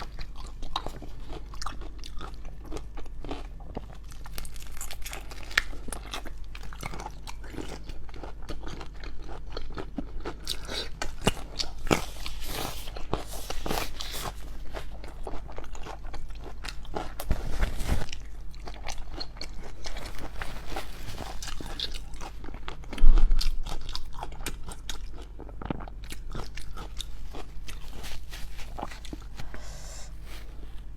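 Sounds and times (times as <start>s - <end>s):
crunching and wet chewing: 0.0s - 30.9s.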